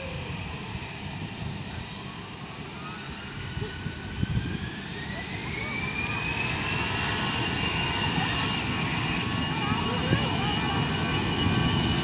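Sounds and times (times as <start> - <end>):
jet engine whine rising: 0.0 - 12.0.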